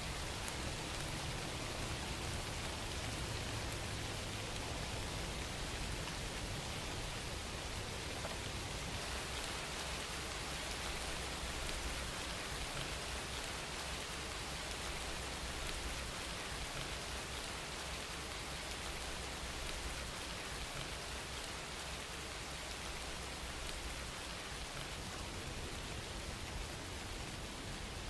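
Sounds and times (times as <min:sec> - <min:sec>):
patter of raindrops: 0:00.0 - 0:28.0
steady rain hissing: 0:00.0 - 0:28.0.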